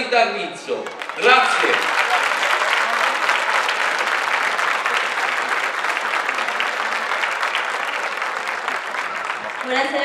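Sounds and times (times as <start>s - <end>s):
crowd applauding: 0.6s - 10.0s.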